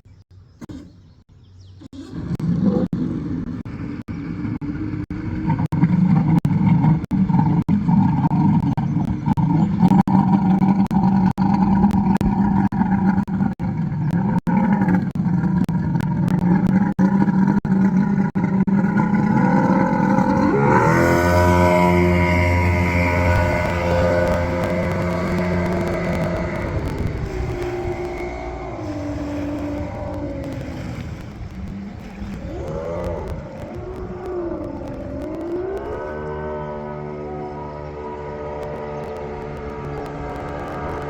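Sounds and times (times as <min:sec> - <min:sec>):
boat engine running: 0:00.1 - 0:41.0.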